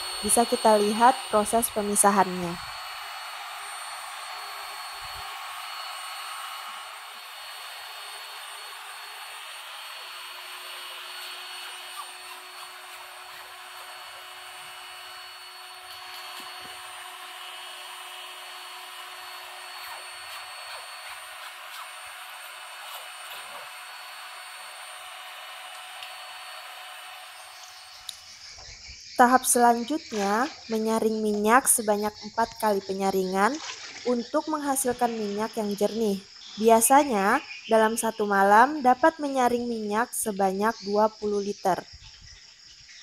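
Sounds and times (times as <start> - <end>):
electric hand mixer whirring: 0.0 - 37.6.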